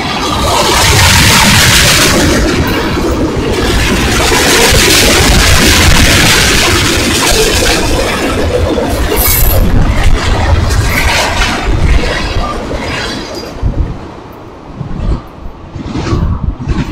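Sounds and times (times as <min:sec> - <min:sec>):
freight train cars rolling past: 0:00.0 - 0:16.9.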